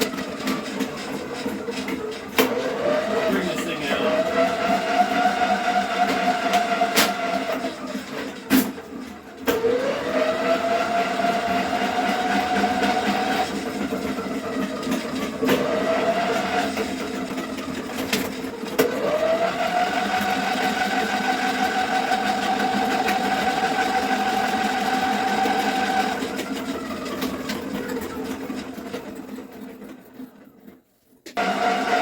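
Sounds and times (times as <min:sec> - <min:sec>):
drain cleaning machine motor hum: 0:00.0 - 0:29.2, 0:31.4 - 0:32.0.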